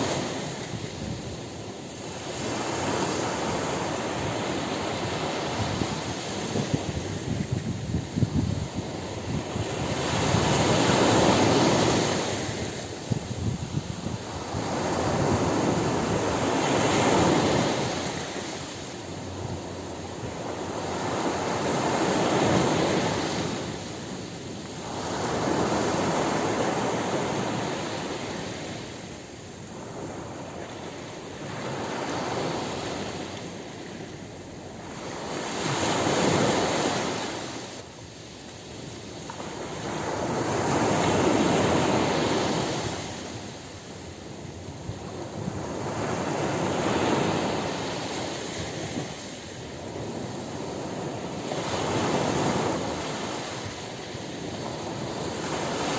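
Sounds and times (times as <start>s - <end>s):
ocean surf breaking on beach: 0.0s - 55.9s.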